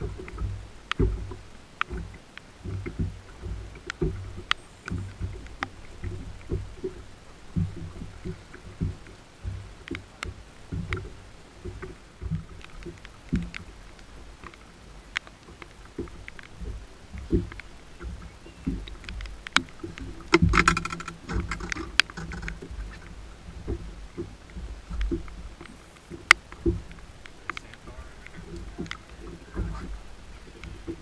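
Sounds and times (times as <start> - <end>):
low thumps on boat deck: 0.0 - 13.6, 16.0 - 31.0
raindrops ticking on camera housing: 0.0 - 31.0
water sloshing against hull: 0.0 - 31.0.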